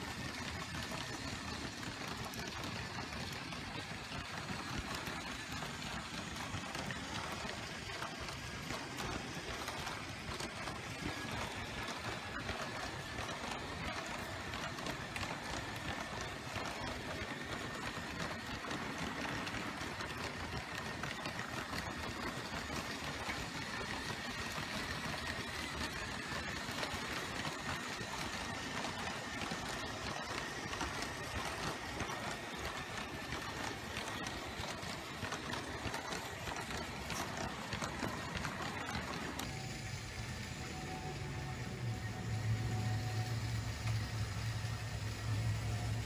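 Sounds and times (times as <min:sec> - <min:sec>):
electric train motor whine: 0:00.0 - 0:46.0
toy train wheels clicking: 0:00.0 - 0:46.0.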